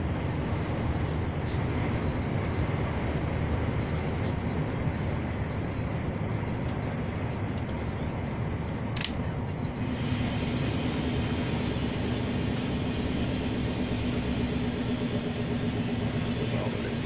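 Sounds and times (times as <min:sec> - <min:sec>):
low engine hum: 0:00.0 - 0:17.0
truck engine and road noise: 0:00.0 - 0:17.0.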